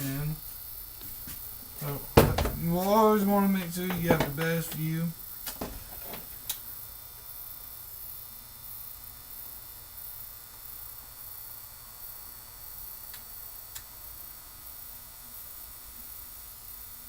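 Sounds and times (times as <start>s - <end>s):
soldering gun transformer humming: 0.0s - 17.0s.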